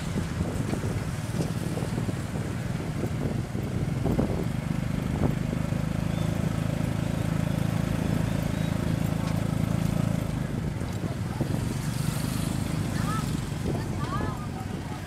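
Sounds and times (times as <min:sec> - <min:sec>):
motorbike engine running: 0:00.0 - 0:15.0
road traffic: 0:00.0 - 0:15.0.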